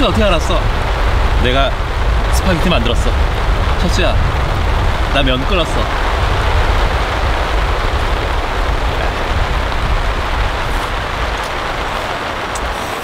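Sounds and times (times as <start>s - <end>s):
rain on a tarp: 0.0s - 13.0s.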